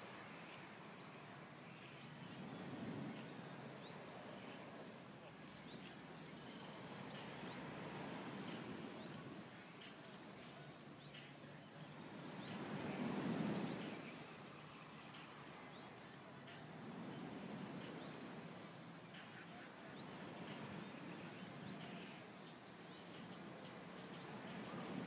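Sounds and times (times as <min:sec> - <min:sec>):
low rushing background wash: 0:00.0 - 0:25.0
birds chirping: 0:01.6 - 0:25.0.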